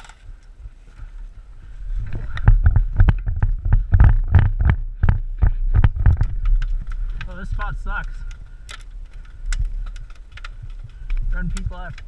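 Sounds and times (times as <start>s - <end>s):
gear jostling microphone: 0.0s - 12.0s
wind on microphone: 0.2s - 12.0s.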